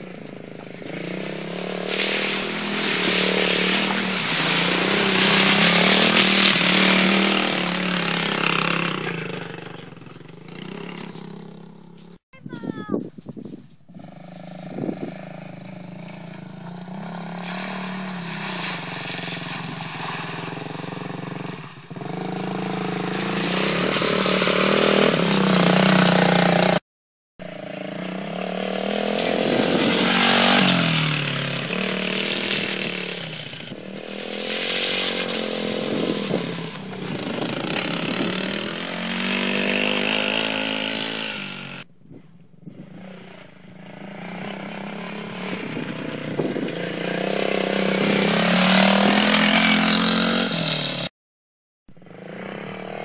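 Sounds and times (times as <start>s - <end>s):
quad bike engine revving: 0.0s - 12.2s, 13.9s - 26.8s, 27.4s - 41.9s, 42.6s - 51.1s, 52.0s - 53.0s.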